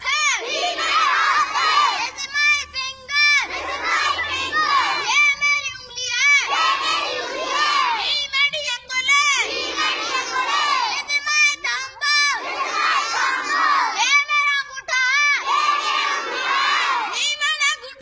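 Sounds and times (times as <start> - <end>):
boys chanting: 0.0 - 18.0.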